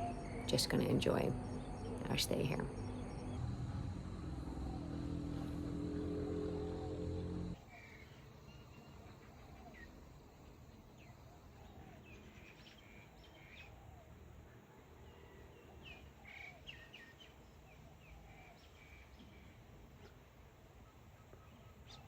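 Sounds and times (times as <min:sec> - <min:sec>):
birds chirping: 0:00.0 - 0:22.0
low steady background hum: 0:00.0 - 0:22.0.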